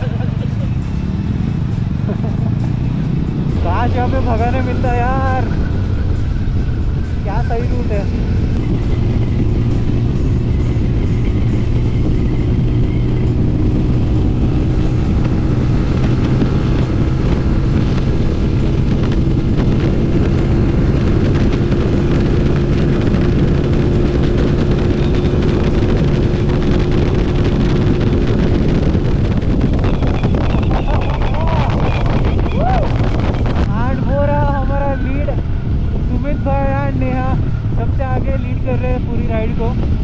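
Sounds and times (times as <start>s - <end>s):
motorcycle engine cruising: 0.0s - 40.0s
wind noise on microphone: 0.0s - 40.0s.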